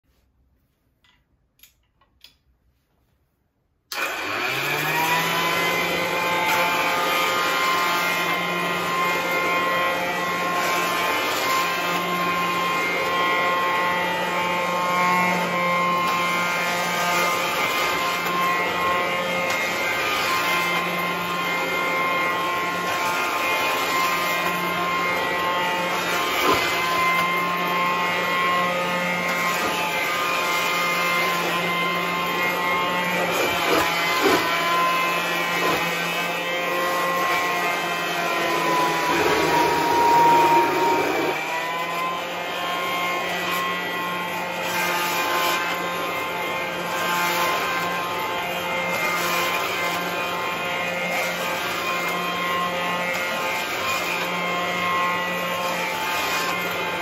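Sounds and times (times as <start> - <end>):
vacuum cleaner motor whine: 3.9 - 57.0.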